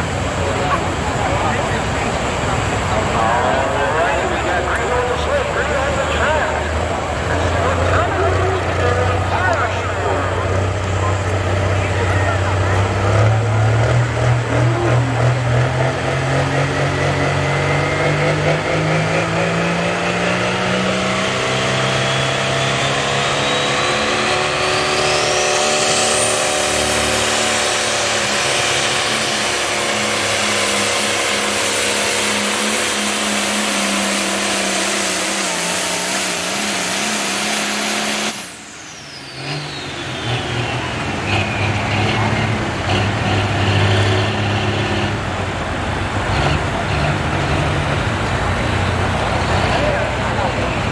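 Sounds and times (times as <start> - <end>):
diesel tractor engine at full throttle: 0.0 - 50.9.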